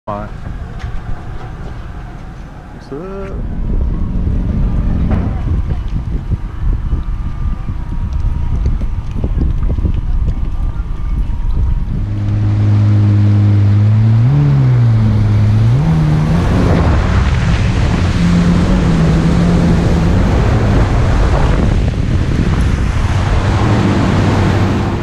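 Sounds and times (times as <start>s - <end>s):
rushing water: 0.1s - 25.0s
wind noise on microphone: 0.1s - 25.0s
watercraft engine revving: 0.3s - 8.3s, 11.0s - 25.0s.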